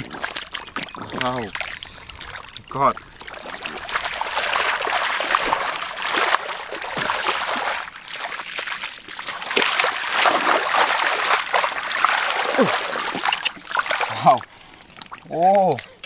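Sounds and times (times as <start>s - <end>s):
hands squelching through wet mud: 0.0s - 16.0s.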